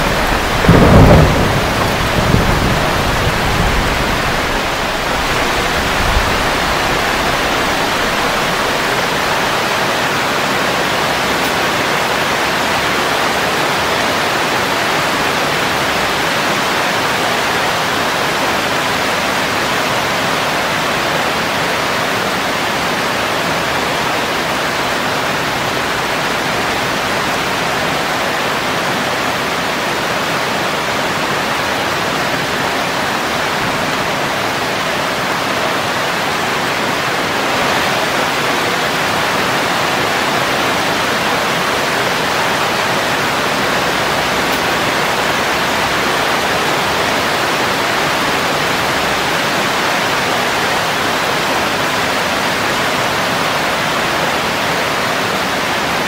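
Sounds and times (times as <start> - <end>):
heavy rain on vegetation: 0.0 - 56.0.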